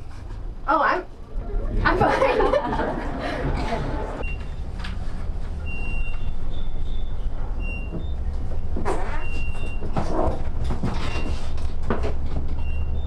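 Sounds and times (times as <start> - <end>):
elevator car rumble: 0.0 - 13.0.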